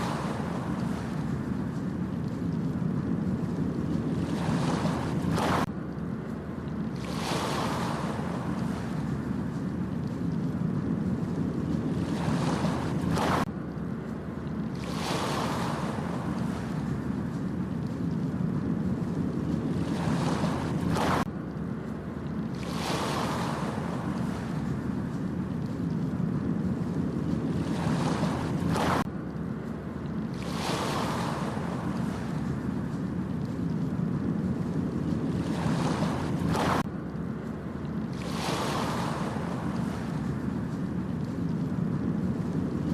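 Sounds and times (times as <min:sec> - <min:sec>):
ocean surf washing onto beach: 0:00.0 - 0:21.3, 0:22.4 - 0:29.1, 0:29.8 - 0:42.9
wind buffeting microphone: 0:00.0 - 0:42.9.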